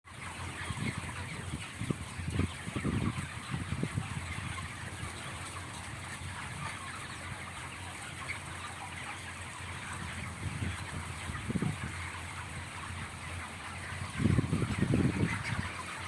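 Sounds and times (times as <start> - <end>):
chickens clucking and chirping: 0.1 - 16.0.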